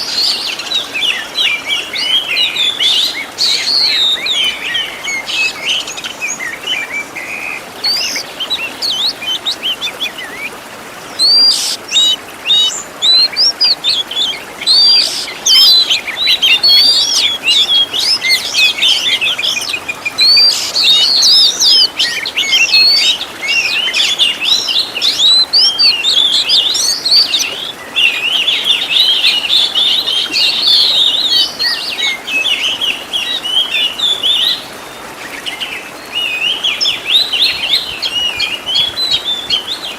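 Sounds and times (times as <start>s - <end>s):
bird singing and mimicking calls: 0.0s - 10.5s, 11.1s - 34.6s.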